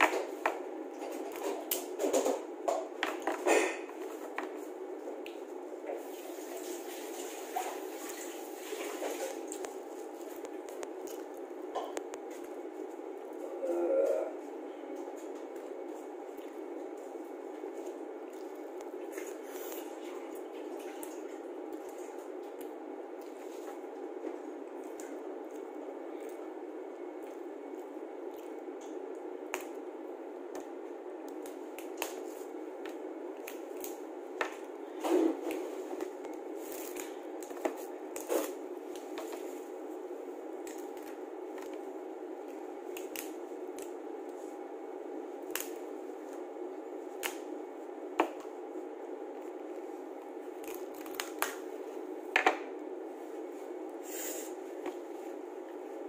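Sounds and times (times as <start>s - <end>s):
steady low hum: 0.0s - 6.8s, 7.5s - 56.0s.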